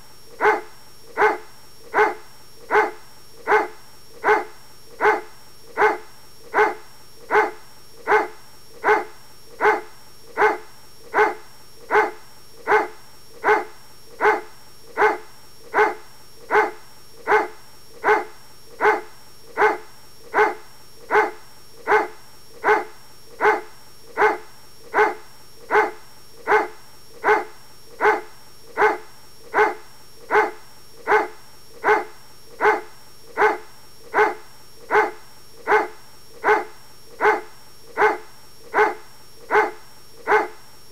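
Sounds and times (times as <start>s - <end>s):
dog barking: 0.3s - 40.6s.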